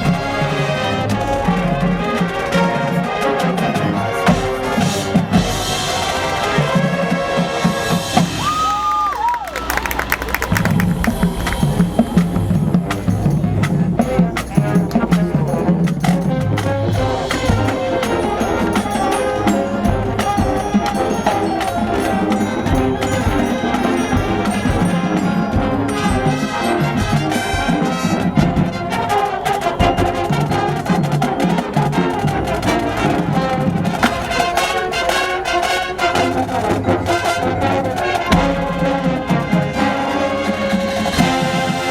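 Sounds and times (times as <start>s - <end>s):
brass section playing: 0.0s - 41.9s
drumline percussion hits: 0.0s - 41.9s.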